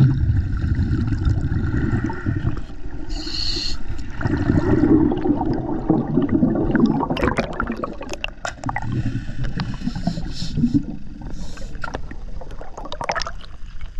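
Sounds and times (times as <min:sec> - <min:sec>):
air bubbles: 0:00.0 - 0:02.7, 0:04.1 - 0:13.9
water gurgling underwater: 0:00.0 - 0:03.1, 0:04.0 - 0:13.9.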